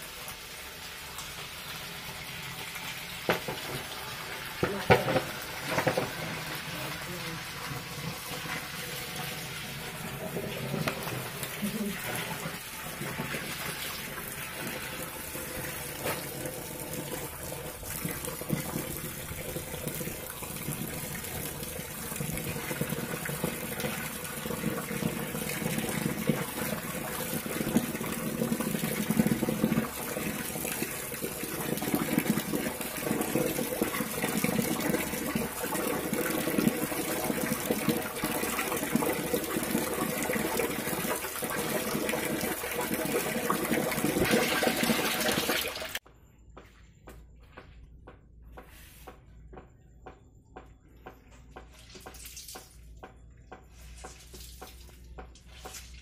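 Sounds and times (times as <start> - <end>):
tap water running into basin: 0.0 - 46.0.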